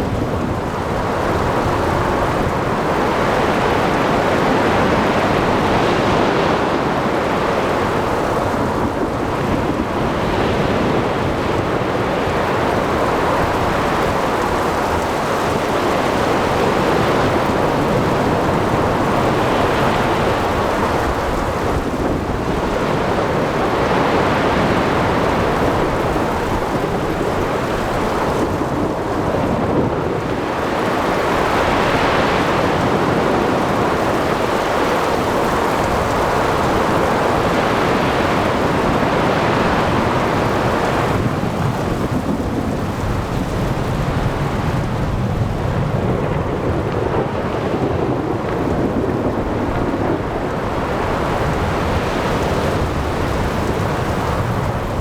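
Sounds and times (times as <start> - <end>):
surf: 0.0 - 55.0.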